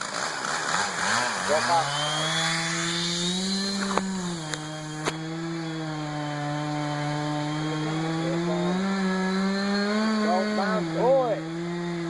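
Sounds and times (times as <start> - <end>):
chainsaw cutting tree trunk: 0.0 - 12.0.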